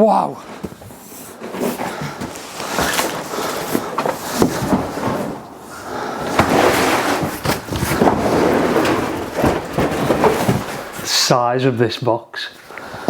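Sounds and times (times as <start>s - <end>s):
cardboard scraping and rustling: 0.4s - 11.2s.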